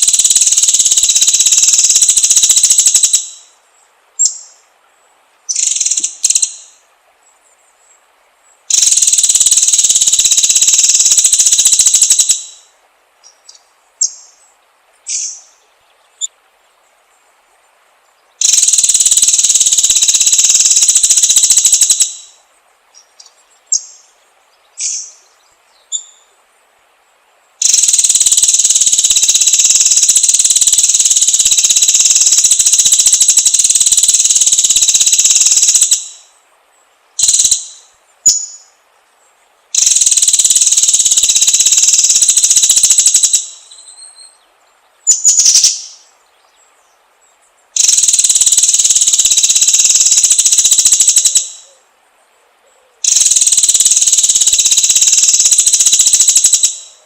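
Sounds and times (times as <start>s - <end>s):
bird calling with buzzing trills: 0.0s - 3.6s, 4.2s - 4.6s, 5.5s - 6.8s, 8.7s - 16.4s, 18.2s - 26.4s, 27.6s - 36.4s, 37.2s - 38.8s, 39.6s - 52.0s, 52.6s - 57.0s.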